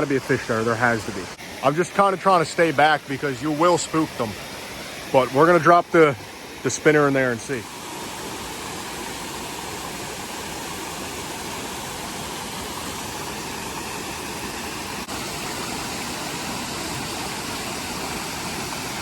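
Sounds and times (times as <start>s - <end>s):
water rushing over waterfall: 0.0s - 19.0s.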